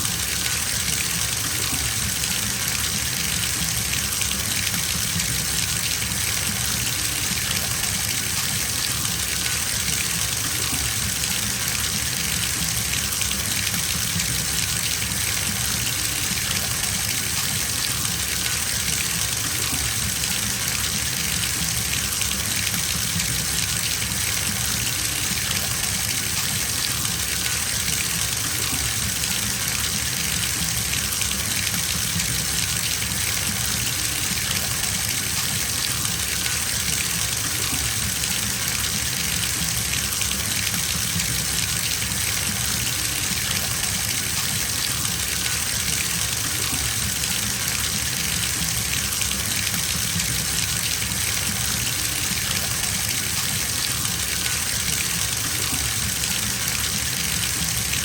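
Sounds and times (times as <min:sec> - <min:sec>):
tap water filling bathtub: 0:00.0 - 0:58.0.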